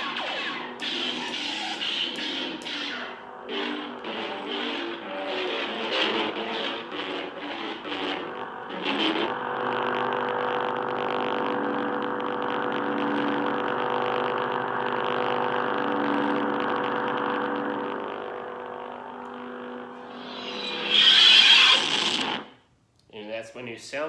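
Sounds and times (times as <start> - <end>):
electric buzzing hum: 0.0 - 22.7.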